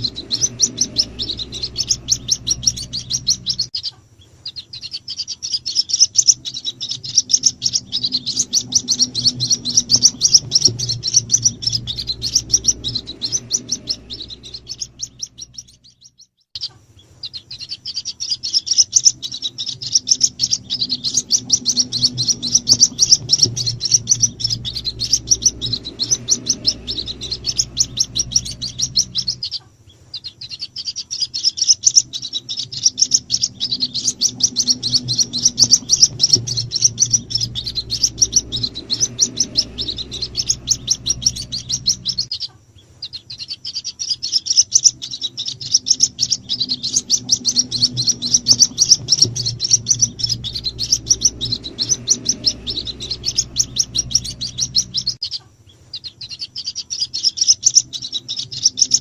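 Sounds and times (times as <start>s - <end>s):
bird chicks peeping: 0.0s - 59.0s
faint low hum: 0.0s - 59.0s.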